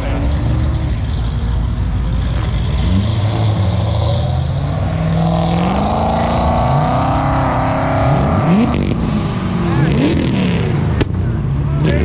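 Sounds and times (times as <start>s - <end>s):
car engine accelerating: 0.0s - 12.0s
other engines running: 0.0s - 12.0s.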